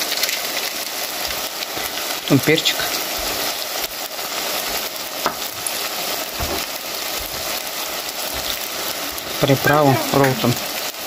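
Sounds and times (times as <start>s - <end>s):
meat and vegetables sizzling in oil: 0.0s - 11.0s.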